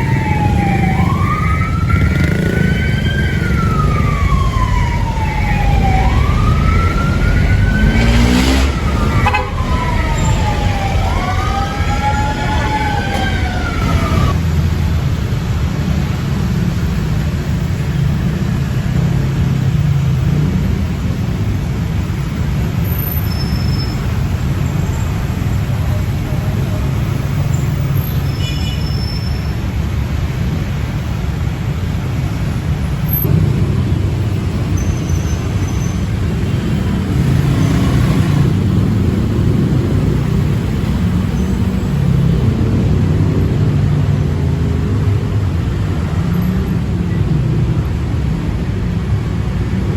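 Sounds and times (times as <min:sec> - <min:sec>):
vehicle engine rumble: 0:00.0 - 0:28.3, 0:29.6 - 0:49.9
road traffic noise: 0:00.0 - 0:49.9.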